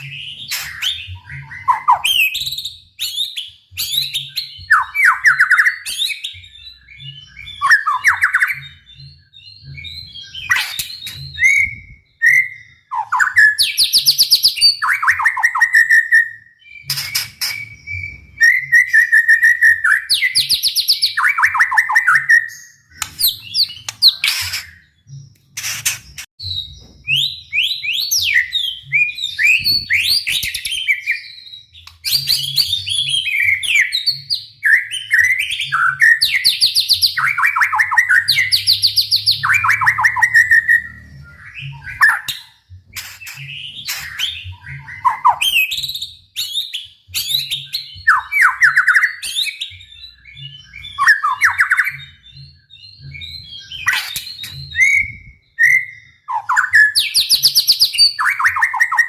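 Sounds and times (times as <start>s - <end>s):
bird singing whistled phrases: 0.0s - 59.0s.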